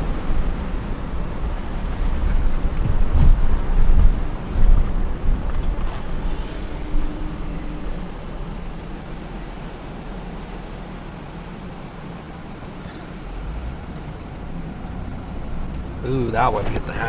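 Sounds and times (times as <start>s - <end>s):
wind and road noise in car: 0.0s - 17.0s
wind buffeting microphone: 0.0s - 17.0s.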